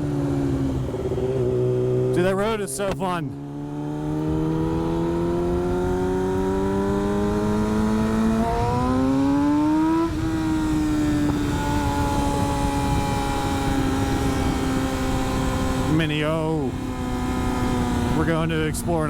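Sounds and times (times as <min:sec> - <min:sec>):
road and wind rumble: 0:00.0 - 0:19.0
vehicle engine accelerating: 0:00.0 - 0:19.0.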